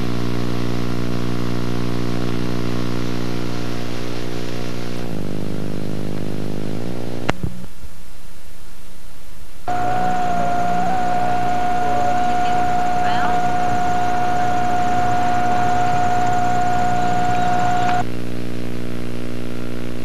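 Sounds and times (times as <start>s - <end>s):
electrical buzz: 0.0s - 7.8s, 9.6s - 20.0s
tape hiss: 0.0s - 20.0s.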